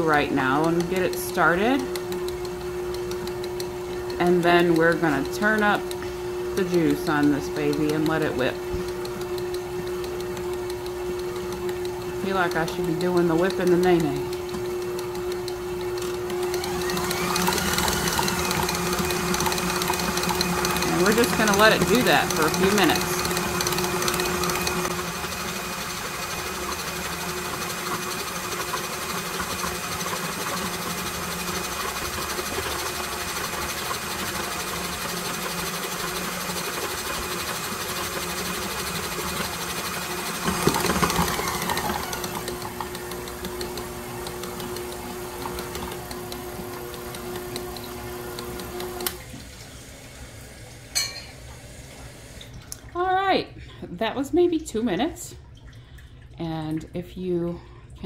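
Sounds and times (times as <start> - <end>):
stand mixer motor running: 0.0 - 50.3.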